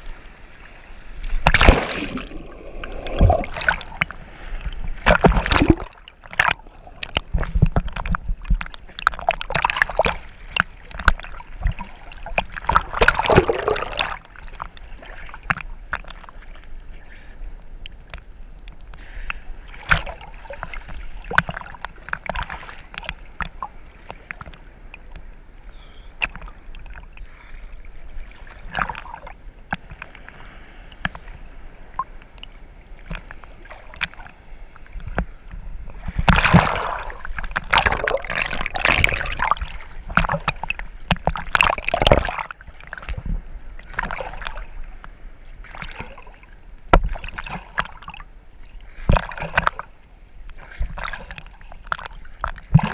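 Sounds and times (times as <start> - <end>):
sea water sloshing: 0.0 - 52.9.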